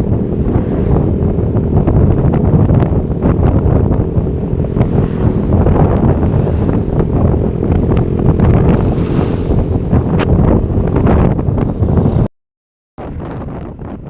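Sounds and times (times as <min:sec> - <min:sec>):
motorcycle engine humming: 0:00.0 - 0:12.3
wind buffeting microphone: 0:00.0 - 0:12.3, 0:13.0 - 0:14.0.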